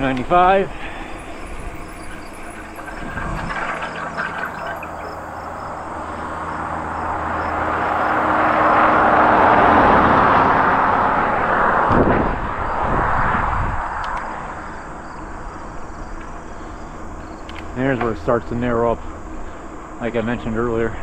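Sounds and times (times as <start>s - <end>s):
motor vehicle passing by: 0.7s - 20.0s.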